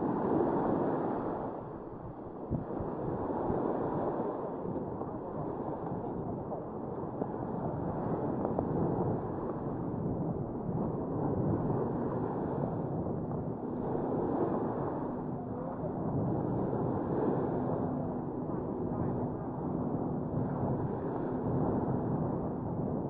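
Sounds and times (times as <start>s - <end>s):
wind noise on microphone: 0.0s - 23.0s
surf washing onto beach: 2.5s - 22.9s.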